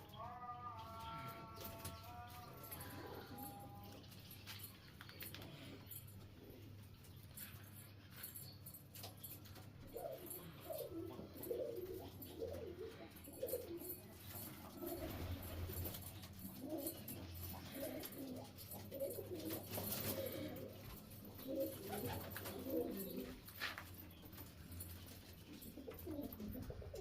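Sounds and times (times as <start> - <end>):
pigeons cooing: 0.0 - 8.4, 9.0 - 27.0.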